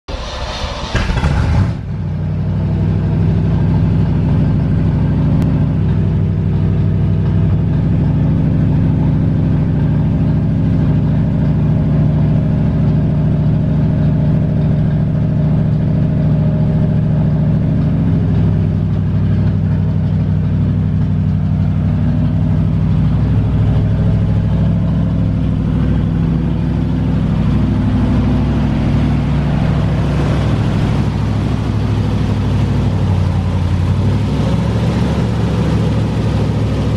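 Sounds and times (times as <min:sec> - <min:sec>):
pickup truck engine idling: 0:00.6 - 0:36.9.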